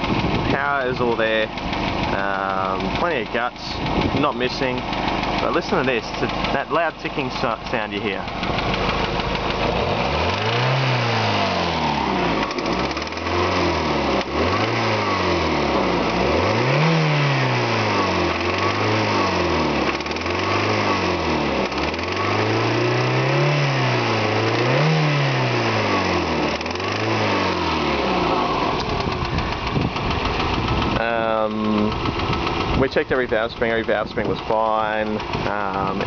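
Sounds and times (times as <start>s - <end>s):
engine revving in throttle blips: 0.0s - 36.0s.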